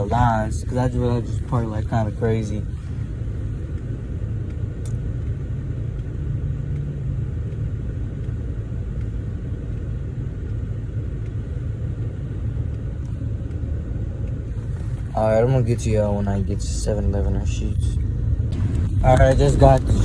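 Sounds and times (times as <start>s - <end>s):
car engine rumble inside cabin: 0.0s - 20.0s.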